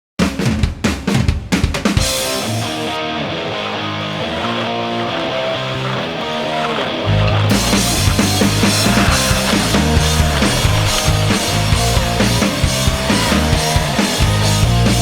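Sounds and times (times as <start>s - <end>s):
band playing with guitar: 2.0s - 15.0s.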